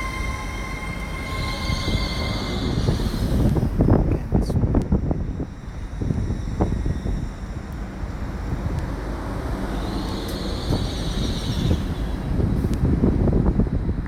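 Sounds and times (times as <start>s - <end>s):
high squeal: 0.0s - 4.0s, 5.5s - 12.8s
train rumbling: 0.0s - 14.0s
wind noise on microphone: 0.0s - 14.0s.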